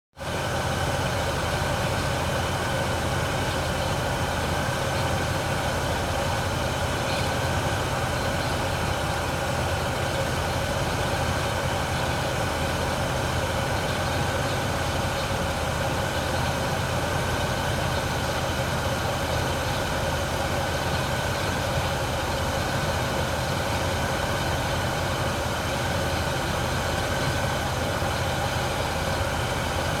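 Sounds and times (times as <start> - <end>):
engine idling: 0.2 - 30.0.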